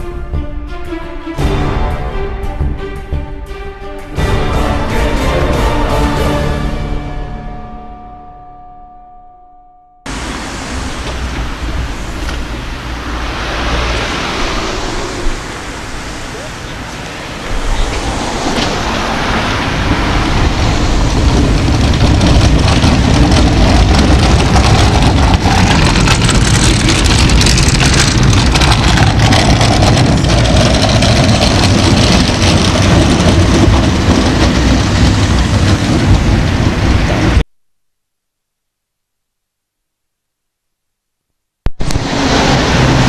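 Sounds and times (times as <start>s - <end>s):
tram wheels rumbling on rails: 0.0s - 7.8s, 10.1s - 37.4s, 41.7s - 43.0s.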